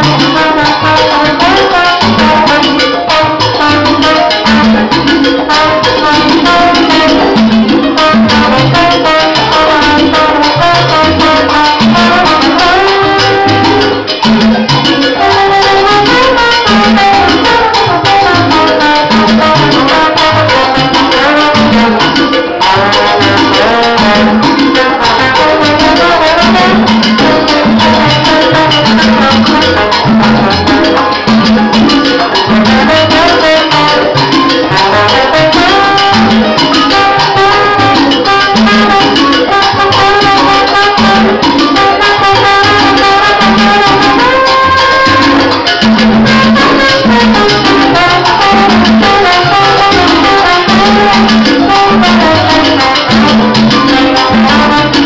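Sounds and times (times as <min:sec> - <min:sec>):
congas: 0:00.0 - 0:55.0
trombone: 0:00.0 - 0:55.0
upright bass: 0:00.0 - 0:55.0.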